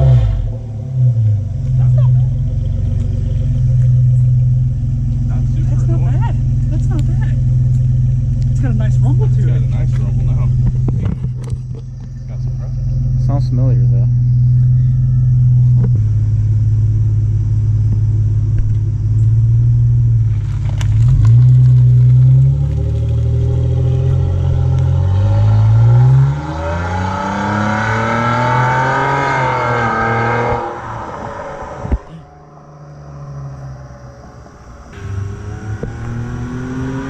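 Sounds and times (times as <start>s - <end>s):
car engine rumbling and revving: 0.0s - 37.0s.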